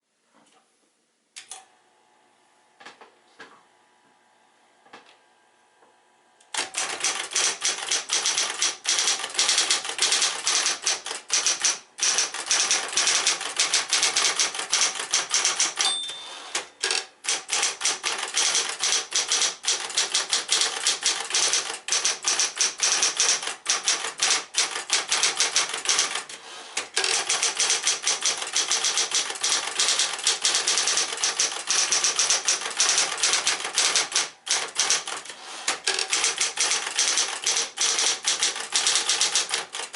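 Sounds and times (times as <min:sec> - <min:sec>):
electric typewriter typing fast: 0:06.5 - 0:39.9.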